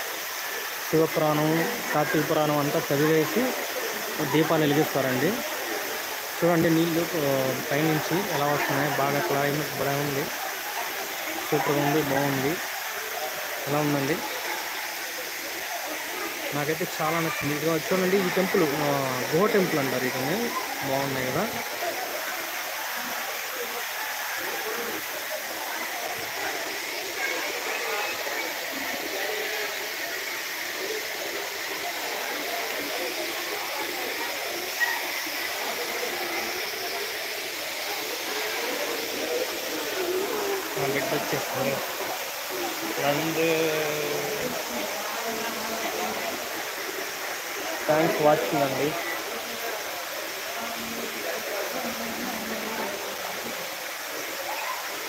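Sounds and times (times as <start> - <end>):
faint voices: 0.0 - 55.0
waterfall rushing: 0.0 - 55.0.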